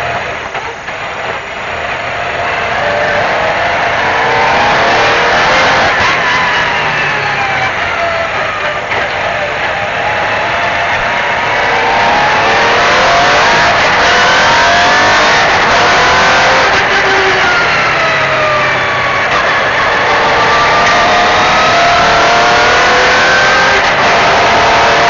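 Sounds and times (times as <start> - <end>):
rally engine revving hard: 0.0 - 25.0.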